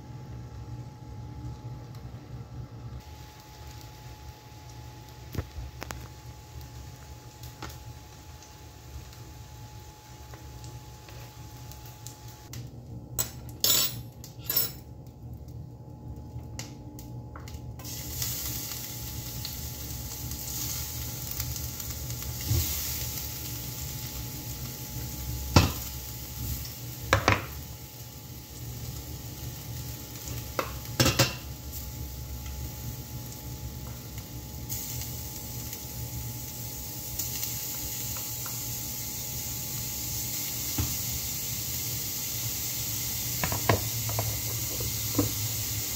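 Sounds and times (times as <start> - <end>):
garlic and onion sizzling in oil: 0.0 - 12.5, 17.1 - 45.9.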